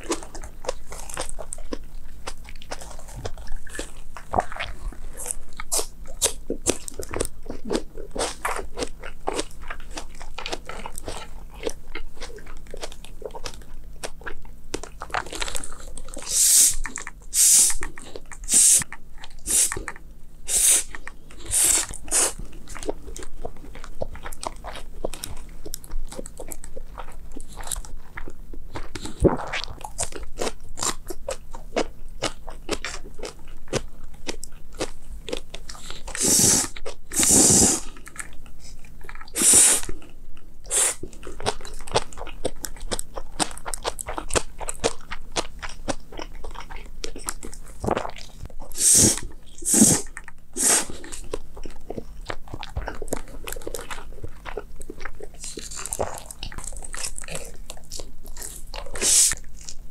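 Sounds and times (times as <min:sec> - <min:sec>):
wet chewing and crunching: 0:00.0 - 0:59.9.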